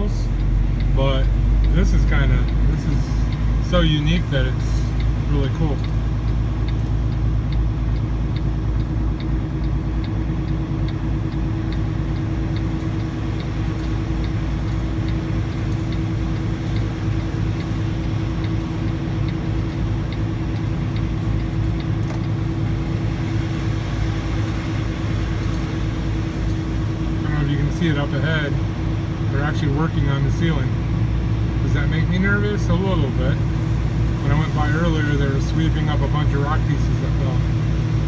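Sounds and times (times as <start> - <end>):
light regular ticking: 0.0 - 38.0
truck diesel engine droning: 0.0 - 38.0.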